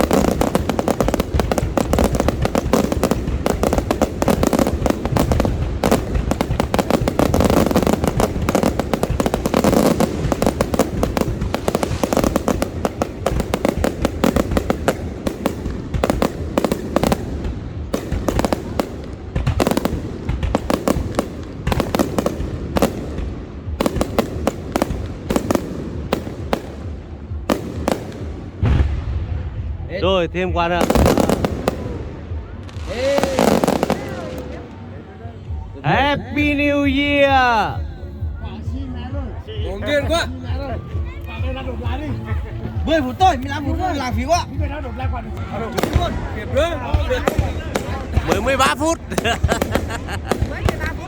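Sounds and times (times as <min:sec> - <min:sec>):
fireworks bangs and crackles: 0:00.0 - 0:51.0.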